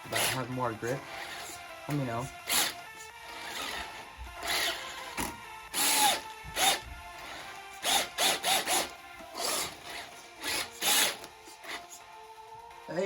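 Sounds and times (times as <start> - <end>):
electric motor revving and whining: 0.0 - 12.0.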